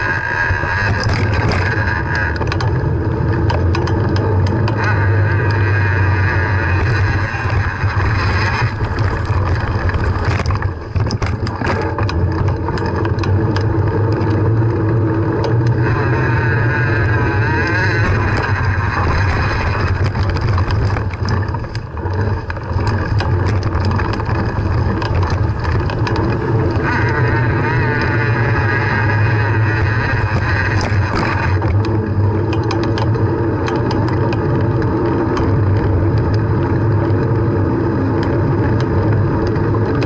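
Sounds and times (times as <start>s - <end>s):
bicycle riding drone: 0.0s - 40.0s
bike clicks and rattles: 0.0s - 40.0s.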